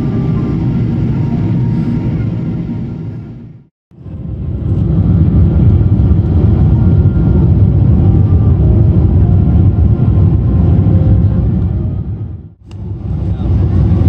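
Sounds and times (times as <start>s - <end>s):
aircraft engine rumble in cabin: 0.0s - 14.0s.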